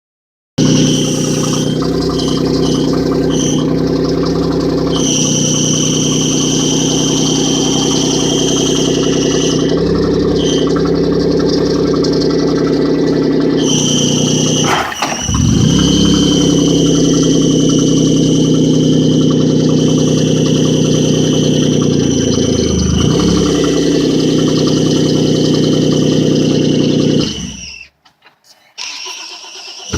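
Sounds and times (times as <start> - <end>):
car engine idling: 0.6 - 27.9
high-pitched whine: 0.6 - 27.9.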